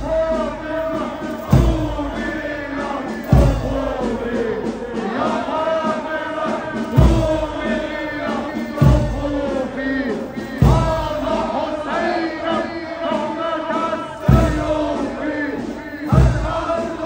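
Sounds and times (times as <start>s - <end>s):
man chanting lament over loudspeaker: 0.0s - 17.0s.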